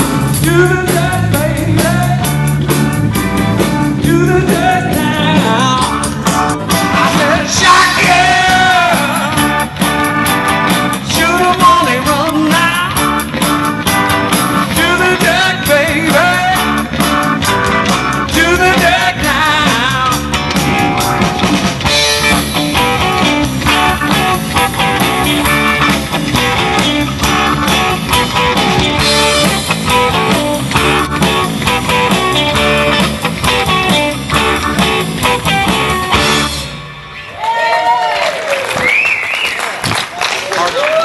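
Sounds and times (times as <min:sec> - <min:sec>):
live rock band playing: 0:00.0 - 0:37.9.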